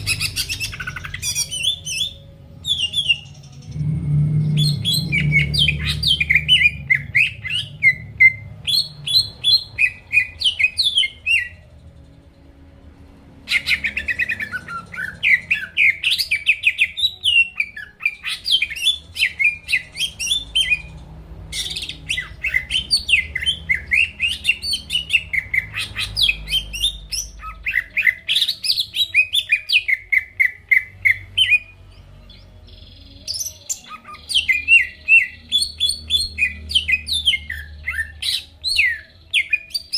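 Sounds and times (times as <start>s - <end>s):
bird chirping and whistling: 0.0s - 11.6s, 13.5s - 20.9s, 21.5s - 31.7s, 32.7s - 39.9s.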